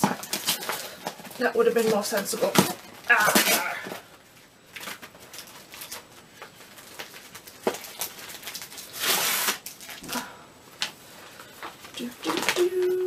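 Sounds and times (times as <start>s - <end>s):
paper envelope tearing and crinkling: 0.0s - 4.1s, 4.7s - 10.0s, 11.6s - 12.9s.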